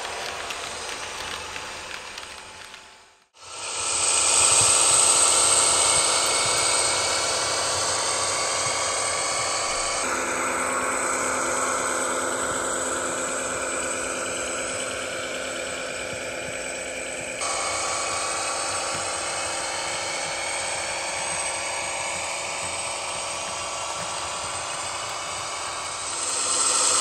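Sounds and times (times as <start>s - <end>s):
model motor whine: 0.0s - 27.0s.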